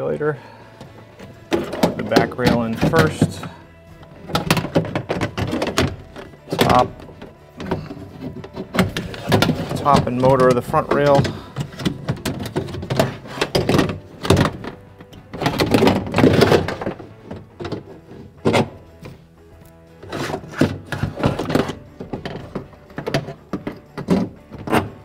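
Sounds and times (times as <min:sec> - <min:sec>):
background music: 0:00.0 - 0:25.0
metal clunks and rattles: 0:00.2 - 0:25.0.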